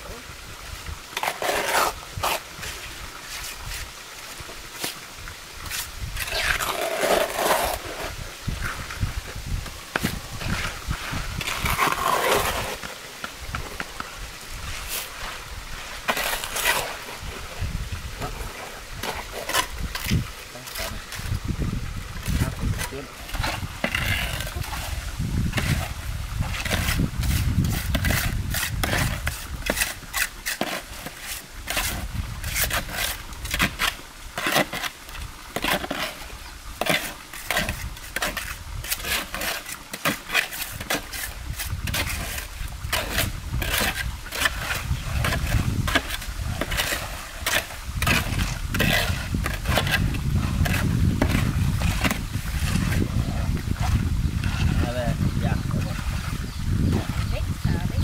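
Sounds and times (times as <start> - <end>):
trowel scraping wet mortar: 1.1 - 5.0, 5.6 - 14.0, 14.6 - 21.4, 22.2 - 58.0.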